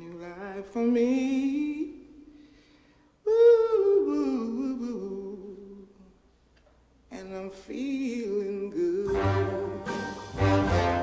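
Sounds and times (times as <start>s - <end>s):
solo voice singing a cappella: 0.0s - 2.5s, 3.2s - 6.2s, 7.1s - 10.6s.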